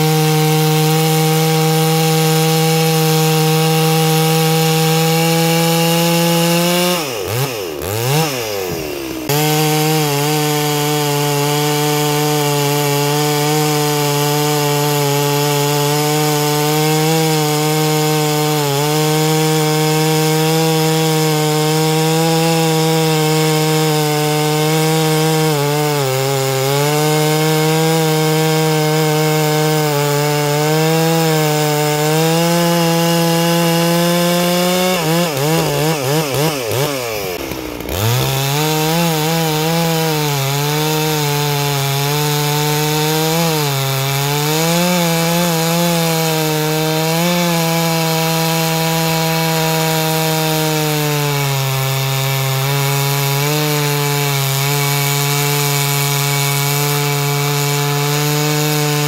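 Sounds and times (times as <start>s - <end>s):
chainsaw cutting log at high revs: 0.0s - 59.0s.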